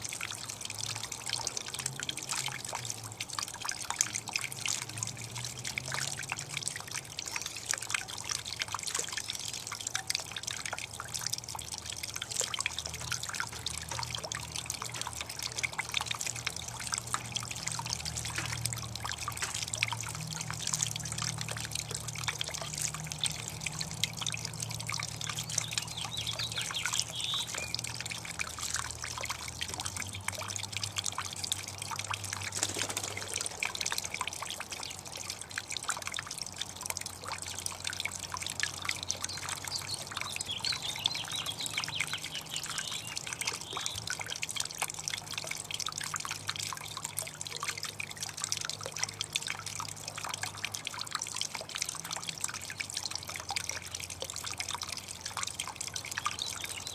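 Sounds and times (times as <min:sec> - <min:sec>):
fountain water trickling: 0:00.0 - 0:56.9.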